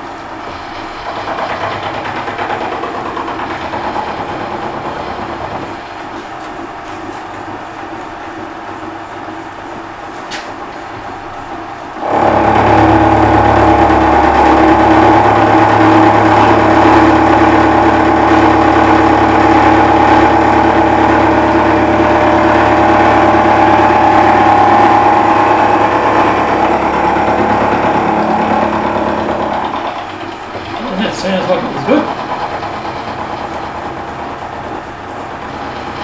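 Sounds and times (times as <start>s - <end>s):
spindle hum: 0.0s - 10.1s, 11.0s - 36.0s
milling machine cutting: 0.2s - 6.2s, 12.0s - 36.0s.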